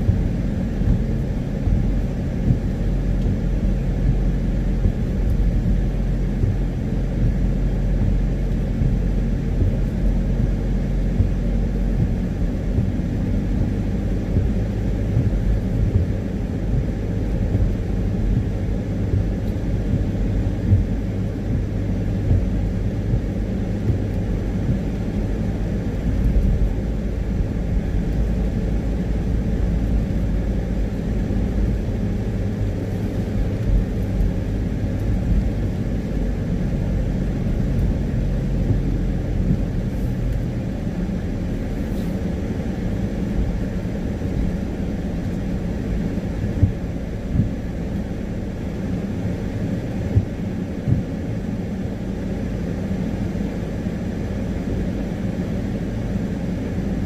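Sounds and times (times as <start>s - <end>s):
car engine rumble: 0.0s - 57.0s
tyre noise on wet road: 0.0s - 57.0s.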